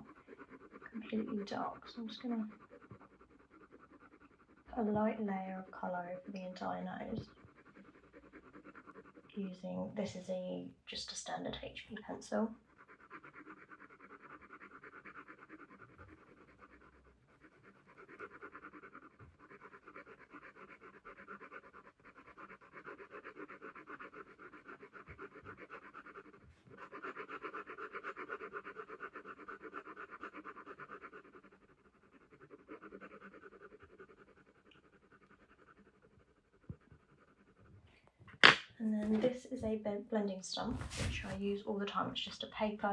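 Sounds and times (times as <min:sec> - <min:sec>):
pencil scratching on paper: 0:00.0 - 0:37.8, 0:38.4 - 0:39.8, 0:40.5 - 0:42.9.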